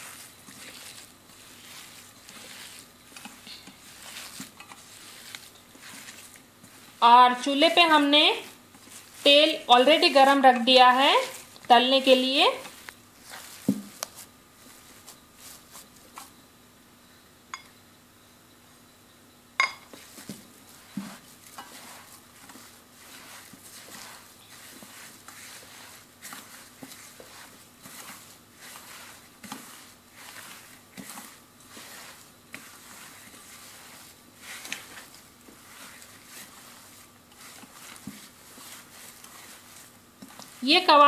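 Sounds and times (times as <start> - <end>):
hand squishing meat mixture: 0.0 - 16.4, 19.9 - 41.0.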